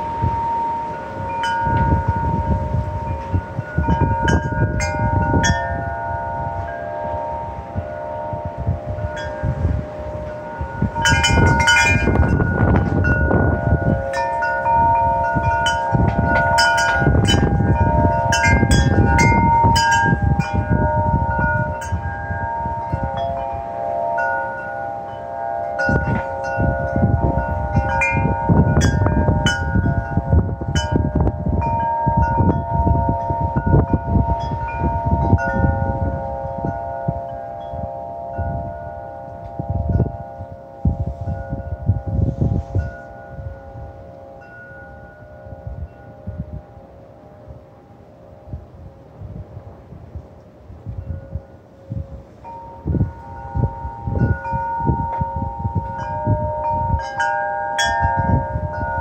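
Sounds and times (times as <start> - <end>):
wind rushing: 0.0 - 38.9, 39.5 - 44.1, 48.5 - 59.0
wind chimes ringing: 0.0 - 59.0.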